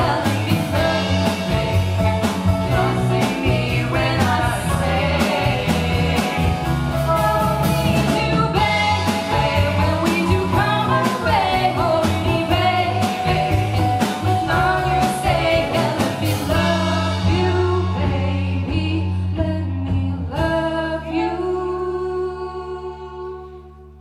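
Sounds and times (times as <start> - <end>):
people singing: 0.0 - 19.0, 20.2 - 23.8
drum kit: 0.0 - 21.6
live pop-rock band: 0.0 - 23.7
electric bass: 0.0 - 24.0.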